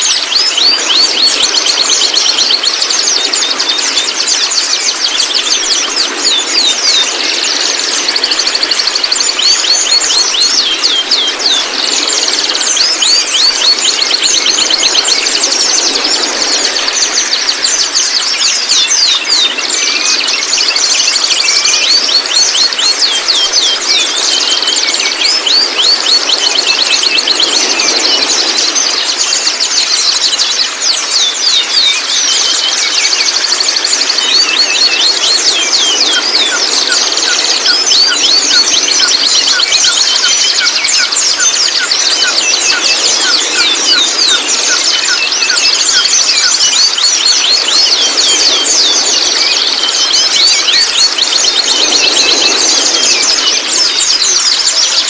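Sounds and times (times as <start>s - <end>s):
bird rattling song: 0.0s - 55.0s
steady high-pitched tone: 0.0s - 55.0s.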